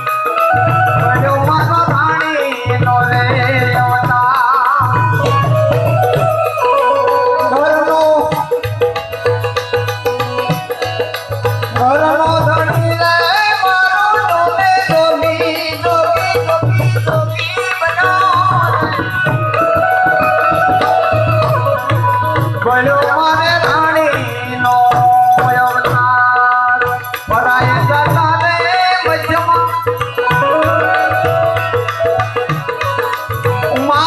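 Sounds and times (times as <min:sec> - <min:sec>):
tabla drumming: 0:00.0 - 0:34.0.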